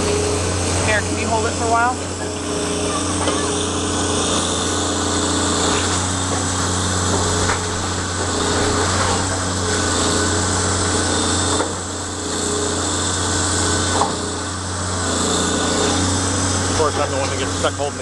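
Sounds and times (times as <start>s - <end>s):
demolition machinery engine hum: 0.0s - 18.0s.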